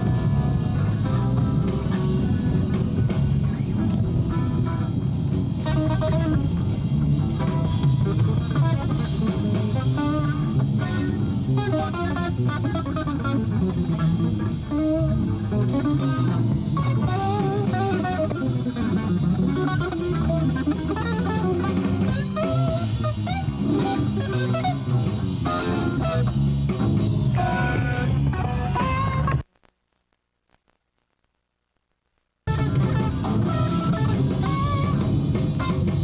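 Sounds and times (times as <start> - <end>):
guitar melody: 0.0 - 29.4, 32.5 - 36.0
bass and drums: 0.0 - 29.5, 32.5 - 36.0.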